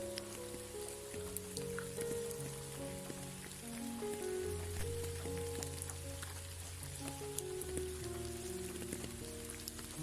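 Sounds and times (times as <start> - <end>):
raindrops ticking: 0.0 - 10.0
soft relaxation music: 0.0 - 10.0
steady rain: 0.0 - 10.0.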